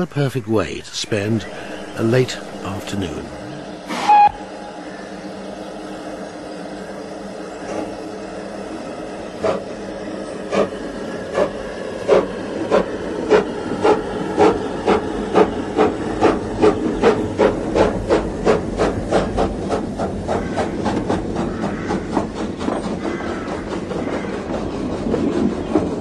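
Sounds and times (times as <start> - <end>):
steam locomotive exhaust chuffs: 0.0 - 26.0
steam hissing: 1.0 - 26.0.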